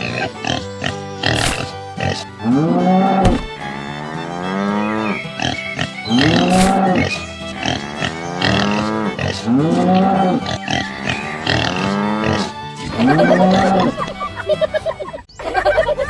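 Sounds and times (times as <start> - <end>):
looping background music: 0.0 - 15.3.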